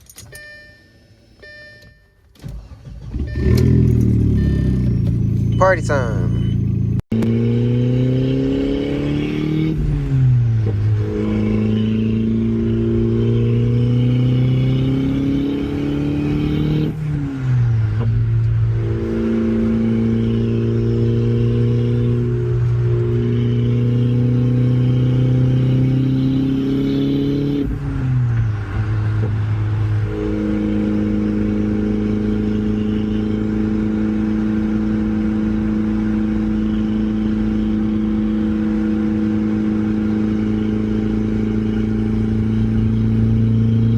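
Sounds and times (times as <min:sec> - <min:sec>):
turbocharged car engine accelerating: 0:02.4 - 0:43.9.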